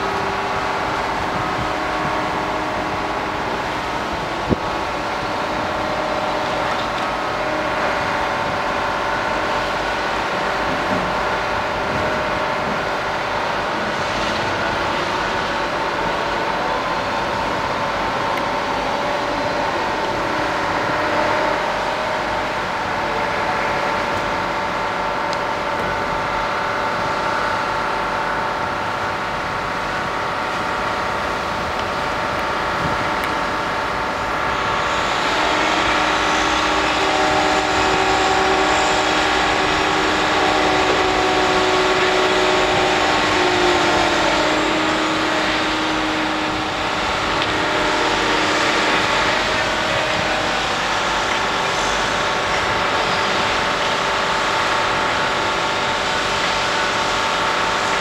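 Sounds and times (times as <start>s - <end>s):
crane diesel engine running: 0.0s - 58.0s
steady whine: 0.0s - 58.0s.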